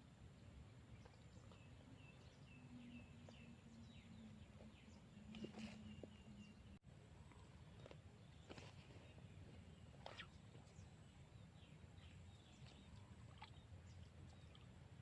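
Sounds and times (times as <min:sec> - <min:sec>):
low steady hum: 0:00.0 - 0:15.0
faint bird chirping: 0:00.2 - 0:15.0.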